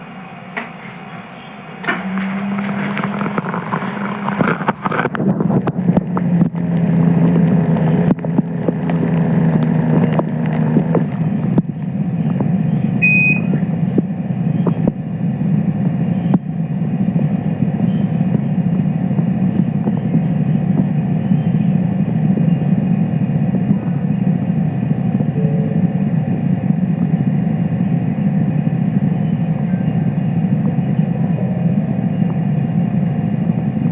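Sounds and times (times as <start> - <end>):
blood pressure cuff motor humming: 0.0 - 33.9.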